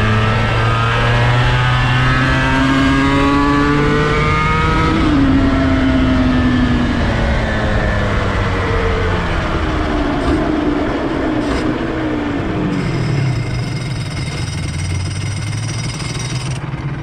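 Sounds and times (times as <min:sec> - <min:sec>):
two-stroke motorcycle engine: 0:00.0 - 0:17.0.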